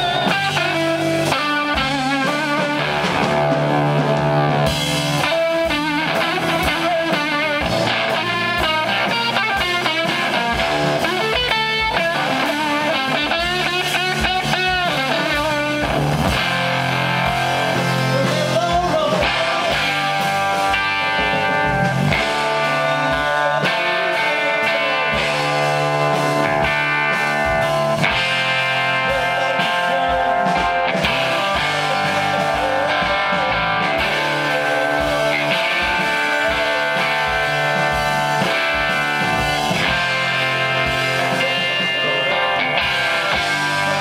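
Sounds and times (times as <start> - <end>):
blues-rock band playing: 0.0 - 44.0
electric guitar: 0.0 - 44.0.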